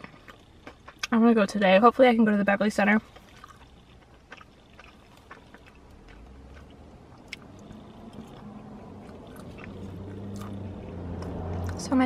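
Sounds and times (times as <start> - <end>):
person chewing: 0.0 - 1.2, 3.0 - 11.8.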